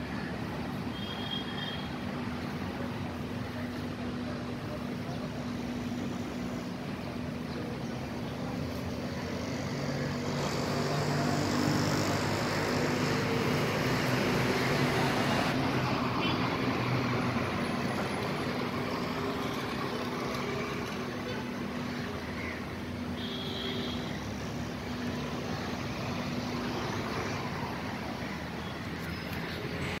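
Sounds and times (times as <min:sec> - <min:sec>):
vehicle engines and road noise: 0:00.0 - 0:30.0.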